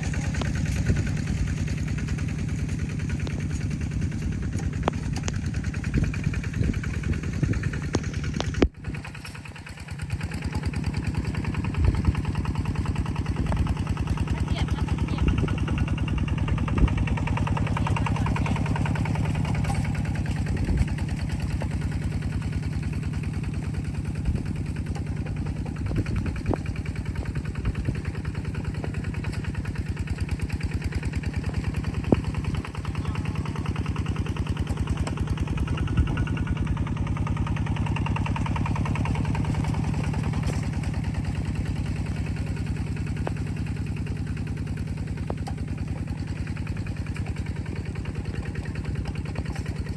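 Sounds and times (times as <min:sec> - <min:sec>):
small engine chugging: 0:00.0 - 0:49.9.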